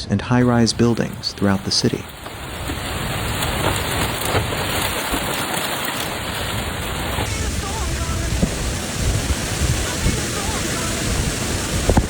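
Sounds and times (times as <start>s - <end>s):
heavy rain pouring: 0.3s - 12.0s.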